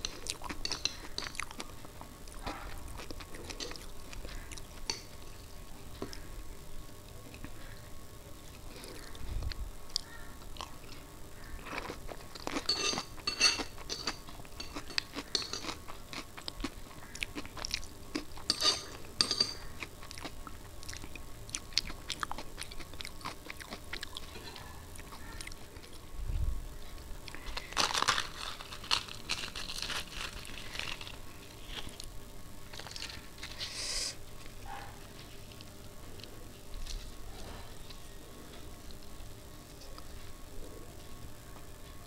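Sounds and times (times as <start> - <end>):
crisp food crunching: 0.0 - 6.3, 8.5 - 26.1, 26.8 - 38.1.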